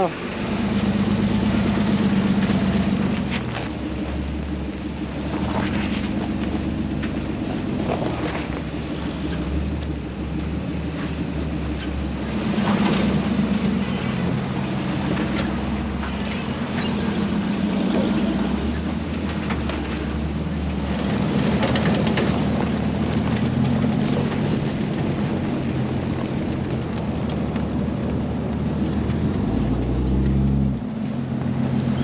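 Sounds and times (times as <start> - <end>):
engine running at low speed: 0.0 - 32.0
knocks and rattles from bumps: 4.8 - 32.0.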